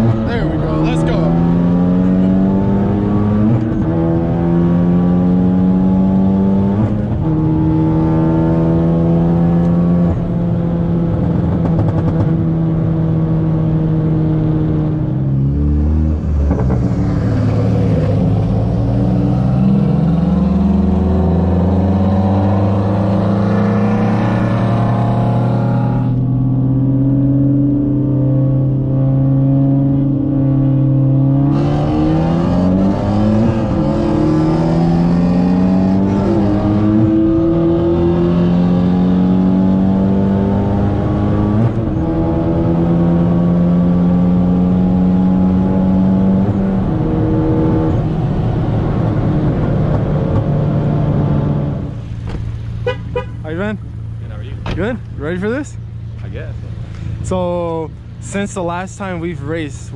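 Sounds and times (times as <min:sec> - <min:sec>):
turbocharged car engine accelerating: 0:00.0 - 0:59.9.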